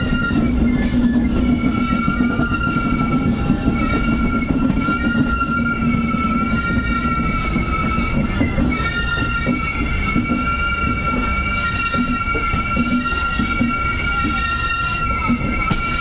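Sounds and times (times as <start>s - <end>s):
high-pitched squeal: 0.0s - 16.0s
train wheels rumbling on rails: 0.0s - 16.0s.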